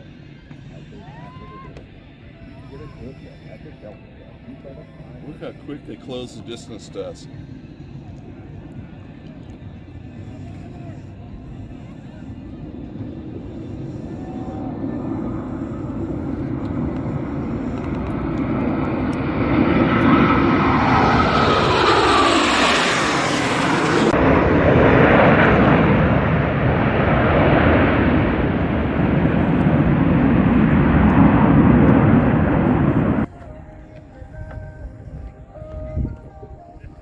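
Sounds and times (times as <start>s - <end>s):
loud jet rumble: 0.0s - 33.3s
high jet whine: 0.0s - 37.0s
jet fighters flying by: 0.0s - 37.0s.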